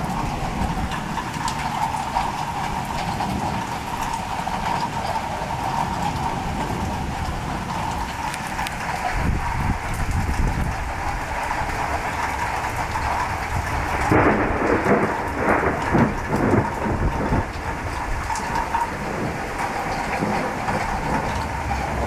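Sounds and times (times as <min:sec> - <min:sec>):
heavy rain with splashing drops: 0:00.0 - 0:22.0
thunder rumble: 0:00.0 - 0:22.0.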